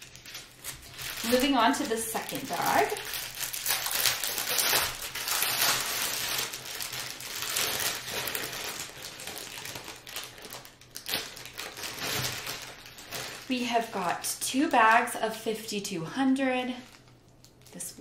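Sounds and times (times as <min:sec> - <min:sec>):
plastic bags crinkling: 0:00.0 - 0:15.1, 0:16.4 - 0:18.0.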